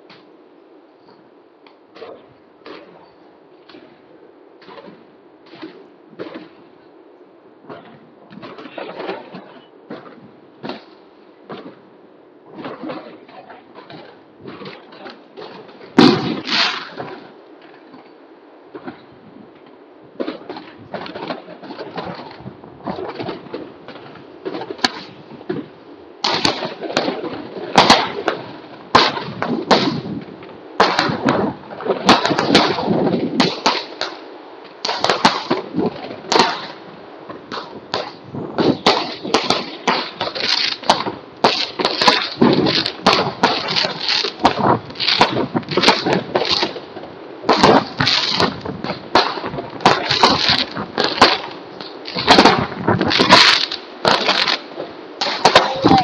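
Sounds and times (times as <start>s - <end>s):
fireworks bangs and crackling: 1.0s - 6.9s, 7.6s - 56.0s.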